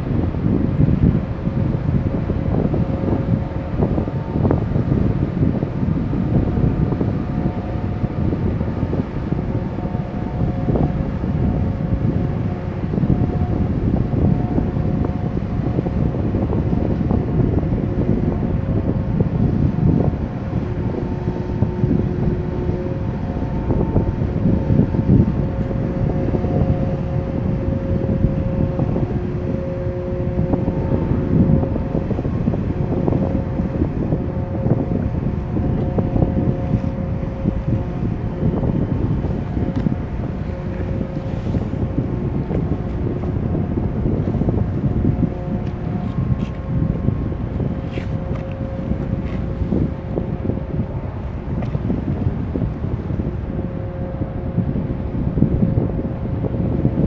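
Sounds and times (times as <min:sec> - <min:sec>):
ship machinery hum: 0:00.0 - 0:57.0
wind buffeting microphone: 0:00.0 - 0:57.0.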